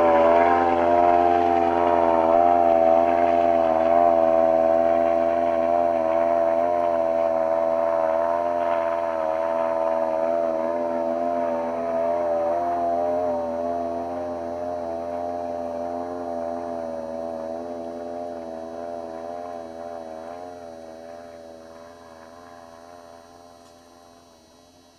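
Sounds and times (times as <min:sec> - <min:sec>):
snowmobile engine running: 0:00.0 - 0:24.9.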